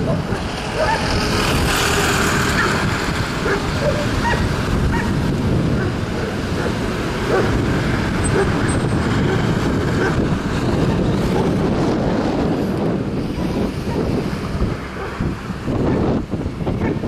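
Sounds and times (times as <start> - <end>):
cars driving past: 0.0 - 17.0
low traffic rumble: 0.0 - 17.0.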